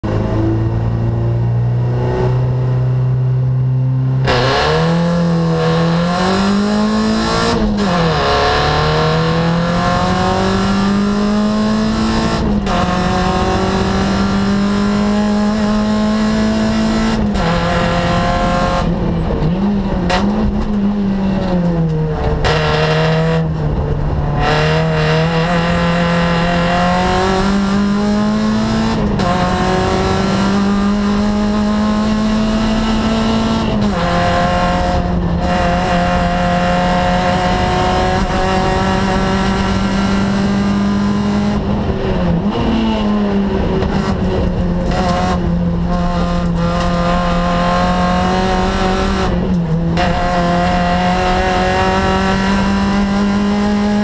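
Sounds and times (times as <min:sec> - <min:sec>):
rally car engine accelerating: 0:00.0 - 0:54.0.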